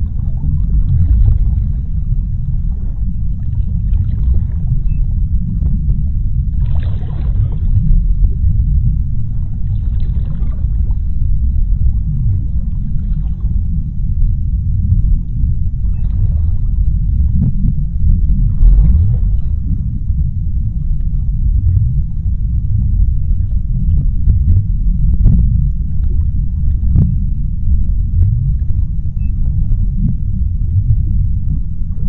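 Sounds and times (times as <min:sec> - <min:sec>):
deep underwater rumble: 0:00.0 - 0:32.0.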